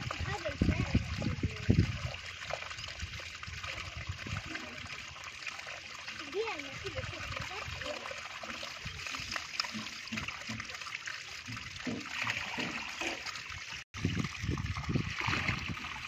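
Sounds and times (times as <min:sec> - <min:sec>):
water trickling through a gap: 0:00.0 - 0:16.0.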